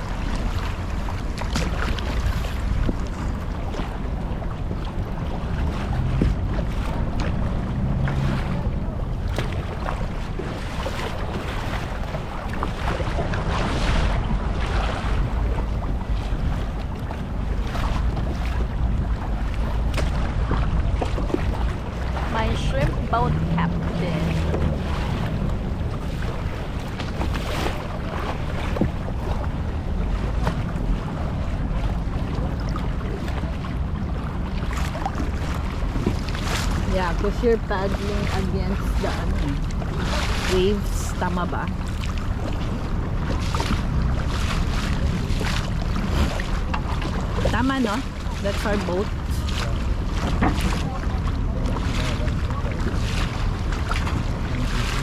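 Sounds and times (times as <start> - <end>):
paddle splashes: 0.0 - 55.0
water lapping around kayak: 0.0 - 55.0
wind buffeting microphone: 0.0 - 55.0.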